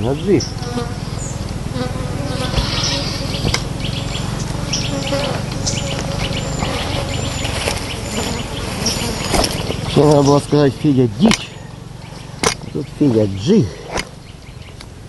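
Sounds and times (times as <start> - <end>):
bird calls: 0.0 - 14.9
insects buzzing: 0.0 - 15.0.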